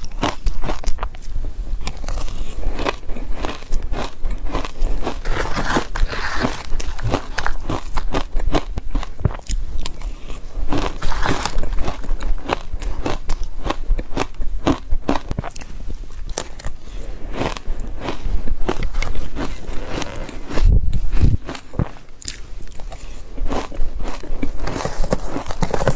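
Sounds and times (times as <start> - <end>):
chewing crunchy shaved ice: 0.0 - 1.2, 1.9 - 15.7, 16.3 - 25.9.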